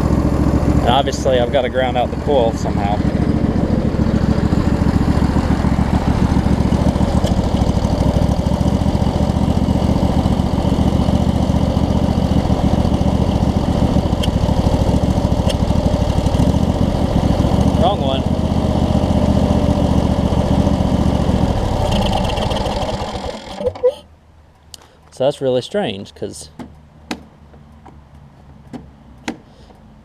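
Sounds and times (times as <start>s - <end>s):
mower engine running: 0.0s - 24.0s.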